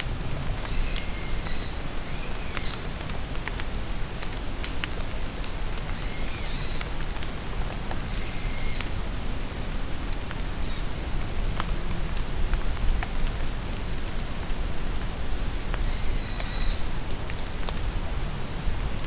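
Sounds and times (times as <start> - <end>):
rain in a forest: 0.0 - 19.0
raindrops tapping: 2.4 - 9.0, 9.7 - 19.0.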